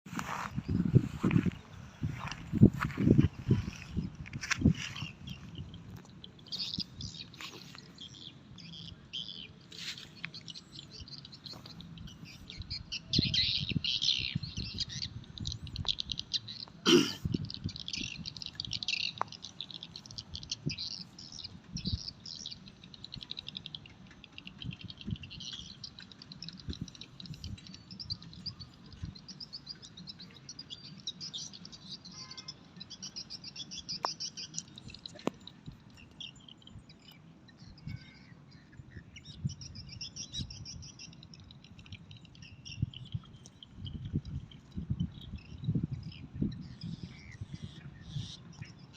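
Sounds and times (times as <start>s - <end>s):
small birds chirping: 0.1s - 48.9s.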